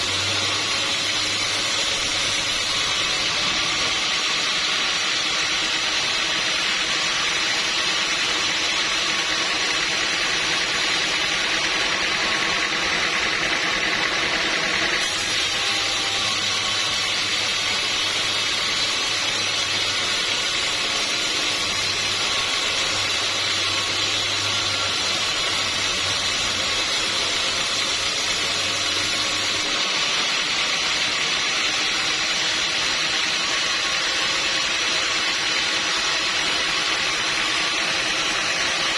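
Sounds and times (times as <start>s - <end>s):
sawmill machinery whirring: 0.0s - 38.9s.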